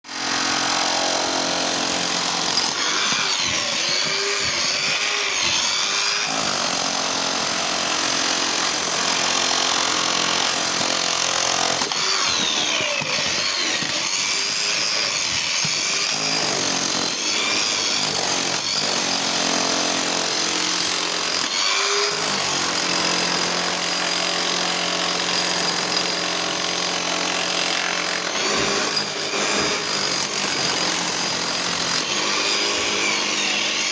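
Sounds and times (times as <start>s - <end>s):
rotary hammer drill motor whine: 0.1s - 33.9s.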